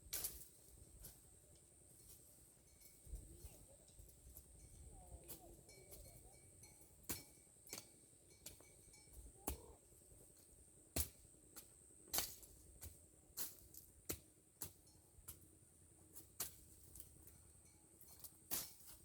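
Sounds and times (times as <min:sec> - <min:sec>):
steady high-pitched hiss: 0:00.0 - 0:19.0.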